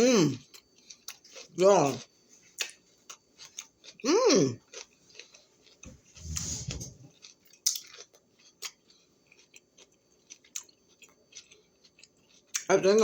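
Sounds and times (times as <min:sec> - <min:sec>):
person chewing crunchy snack: 0:00.0 - 0:12.9.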